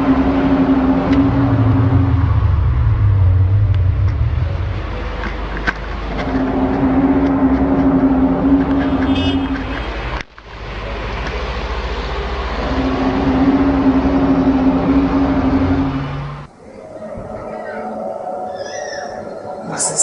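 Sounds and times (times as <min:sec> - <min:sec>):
rumbling noise: 0:00.0 - 0:18.5
low trumpet-like drone: 0:00.0 - 0:20.0.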